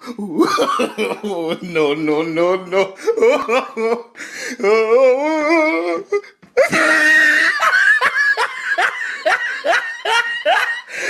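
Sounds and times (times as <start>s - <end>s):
person laughing hysterically: 0.0s - 11.0s.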